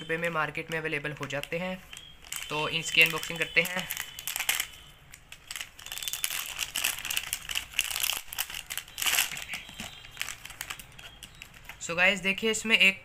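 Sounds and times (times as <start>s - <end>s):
plastic packet crinkling: 0.5s - 11.9s.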